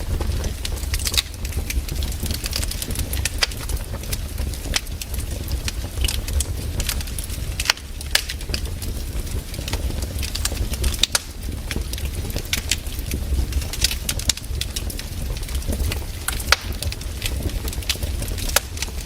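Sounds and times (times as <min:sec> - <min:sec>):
campfire wood crackling: 0:00.0 - 0:19.0
fire low rumble: 0:00.0 - 0:19.0.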